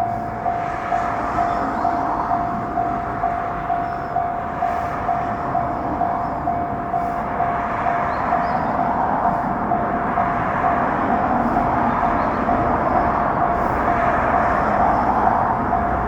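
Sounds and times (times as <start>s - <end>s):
railroad crossing alarm clanging: 0.0s - 16.0s
train rolling rumble: 0.0s - 16.0s.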